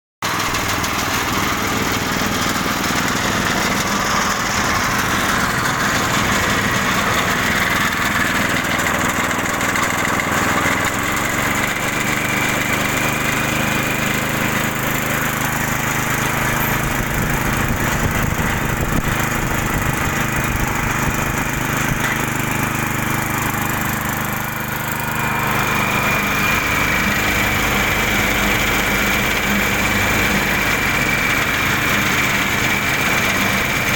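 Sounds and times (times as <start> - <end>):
mixer machine high whine: 0.3 - 33.9.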